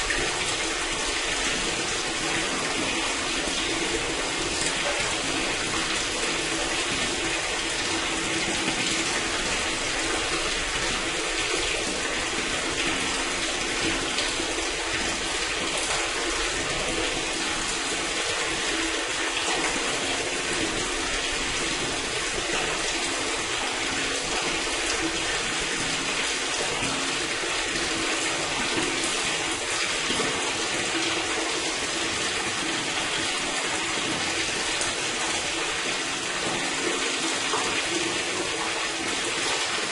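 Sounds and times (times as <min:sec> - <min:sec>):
water pouring into drain: 0:00.0 - 0:39.9.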